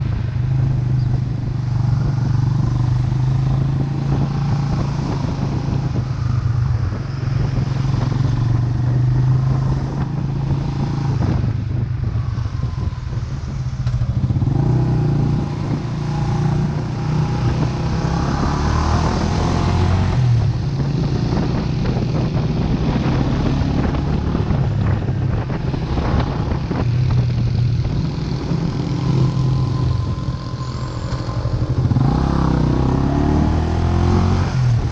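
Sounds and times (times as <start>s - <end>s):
motorcycle engine running: 0.0s - 34.9s
road noise: 0.0s - 34.9s.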